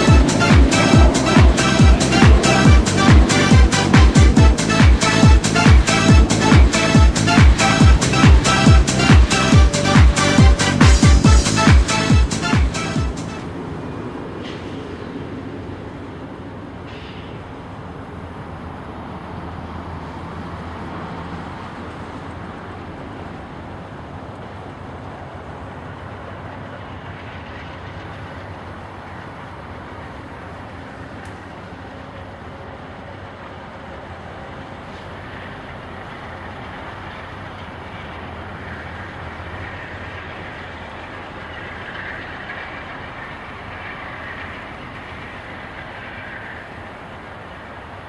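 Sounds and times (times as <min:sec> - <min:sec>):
train rolling over track: 0:00.0 - 0:48.0.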